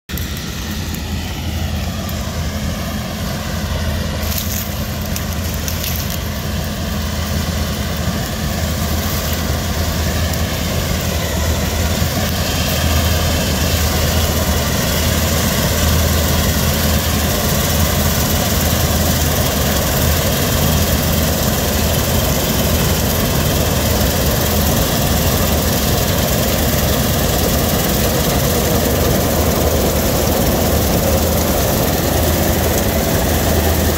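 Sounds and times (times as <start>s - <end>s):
combine harvester droning: 0.1s - 33.9s.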